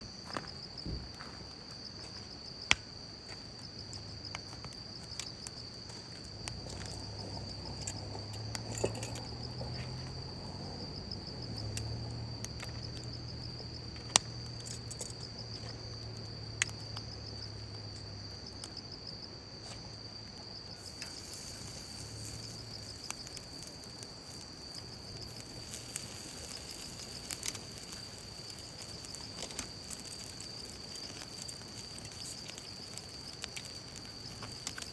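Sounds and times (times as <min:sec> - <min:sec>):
insects chirping: 0:00.0 - 0:34.9.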